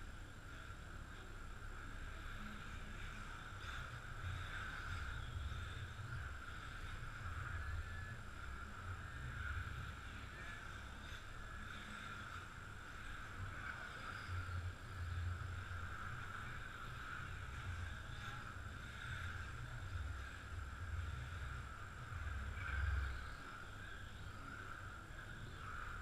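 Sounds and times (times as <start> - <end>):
rc car motors and tyres: 0.0 - 26.0.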